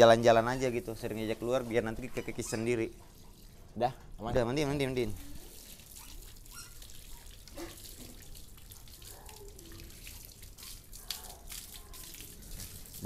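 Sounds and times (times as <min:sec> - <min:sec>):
hose water splashing on concrete: 0:00.0 - 0:13.0.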